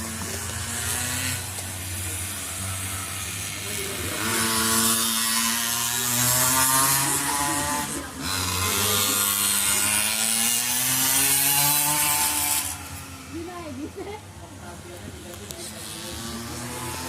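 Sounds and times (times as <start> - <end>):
small motorcycle engine buzzing: 0.0 - 17.0.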